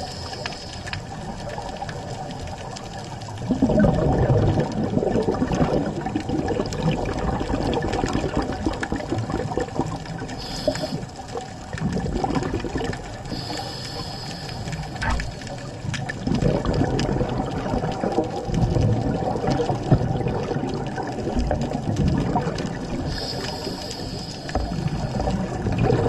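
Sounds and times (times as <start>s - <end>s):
underwater rush and bubbling: 0.0s - 26.0s.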